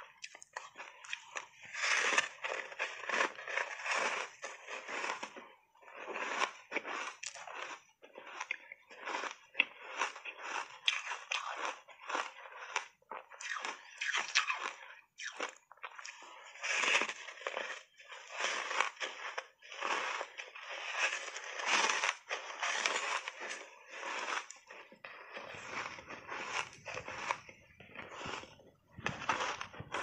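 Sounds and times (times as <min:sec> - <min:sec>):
ice crunching being chewed: 0:00.0 - 0:30.0.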